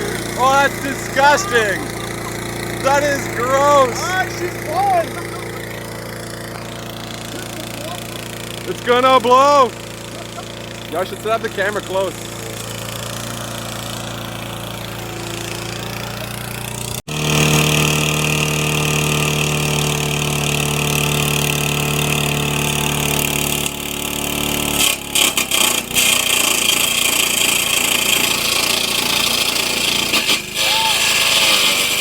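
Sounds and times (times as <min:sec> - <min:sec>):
lawn mower engine running: 0:00.0 - 0:32.0.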